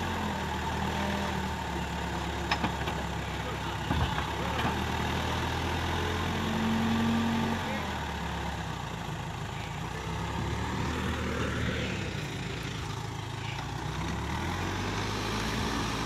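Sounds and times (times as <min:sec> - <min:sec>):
diesel engine running: 0:00.0 - 0:16.0
loader bucket working earth: 0:00.0 - 0:16.0.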